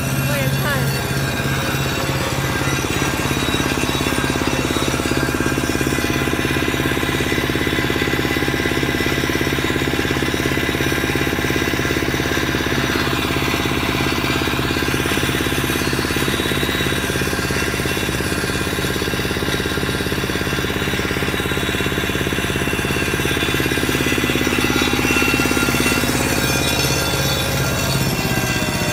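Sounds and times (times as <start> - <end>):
small diesel engine chugging: 0.0 - 28.9.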